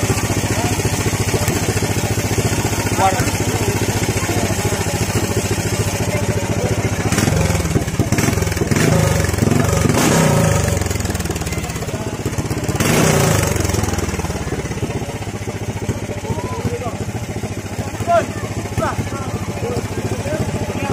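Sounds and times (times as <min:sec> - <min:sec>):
small petrol engine revving: 0:00.0 - 0:20.9.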